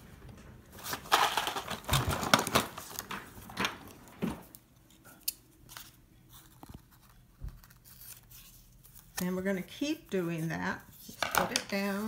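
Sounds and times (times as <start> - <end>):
art supplies clattering and rustling: 0.7 - 7.9, 9.0 - 12.0.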